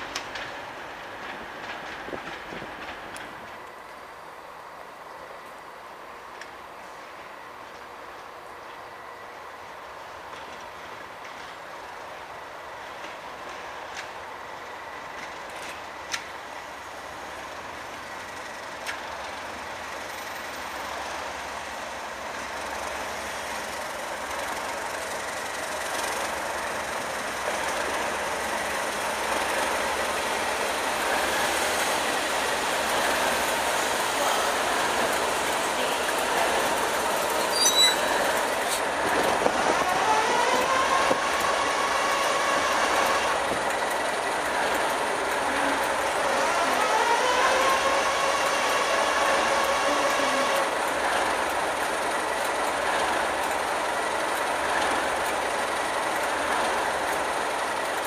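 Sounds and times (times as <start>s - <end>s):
diesel locomotives passing: 0.0s - 58.0s.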